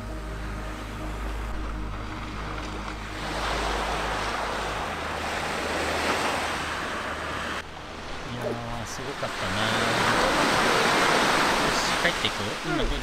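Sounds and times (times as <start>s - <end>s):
soft background music: 0.0s - 13.0s
waves washing onto beach: 0.6s - 13.0s.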